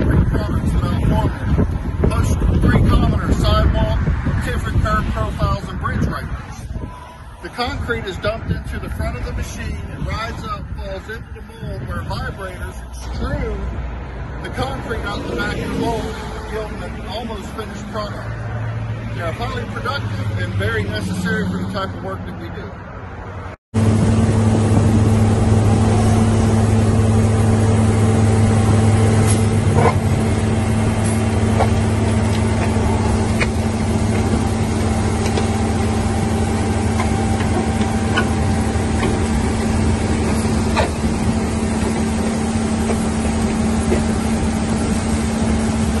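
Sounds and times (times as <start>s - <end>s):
diesel machinery drone: 0.0s - 46.0s.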